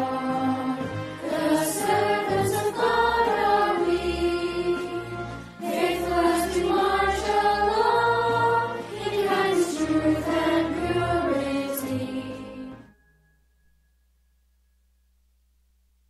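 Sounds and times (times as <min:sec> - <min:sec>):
choir singing with instruments: 0:00.0 - 0:12.9.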